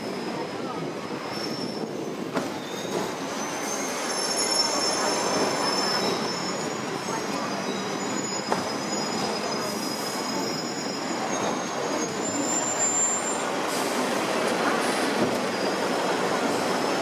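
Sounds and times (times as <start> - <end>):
steel wheels squealing on rails: 0.0 - 17.0
tram running noise: 0.0 - 17.0.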